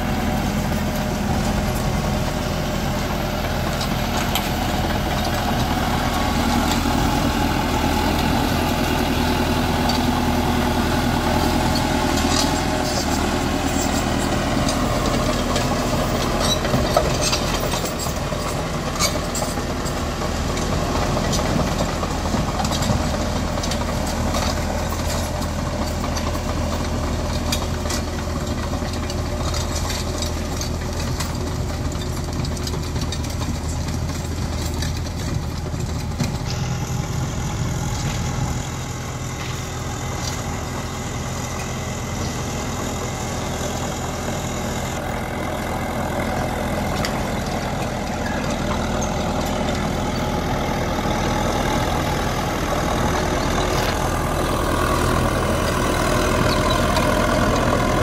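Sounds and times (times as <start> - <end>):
blade pushing soil and rocks: 0.0 - 58.0
diesel engine running under load: 0.0 - 58.0.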